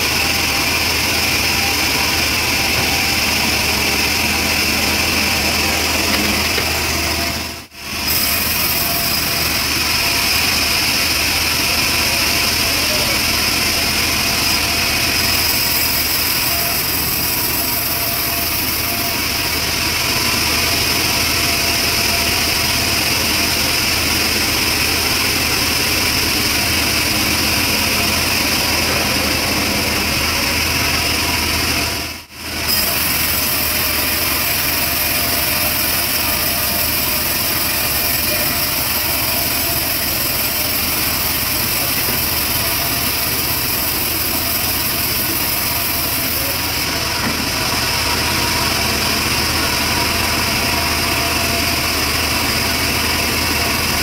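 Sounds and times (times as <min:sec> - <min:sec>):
bandsaw cutting timber: 0:00.0 - 0:54.0.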